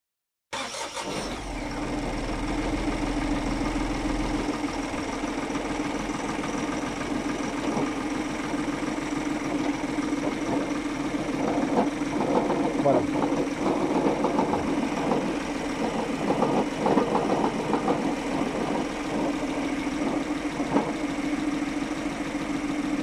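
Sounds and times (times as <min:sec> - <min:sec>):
diesel engine idling: 0:00.6 - 0:23.0.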